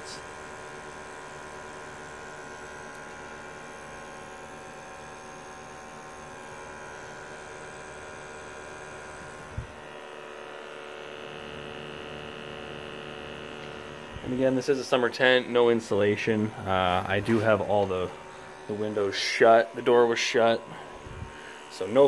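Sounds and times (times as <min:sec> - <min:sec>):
heater fan and burner hum: 0:00.0 - 0:22.0
sampling pump buzz: 0:00.0 - 0:22.0.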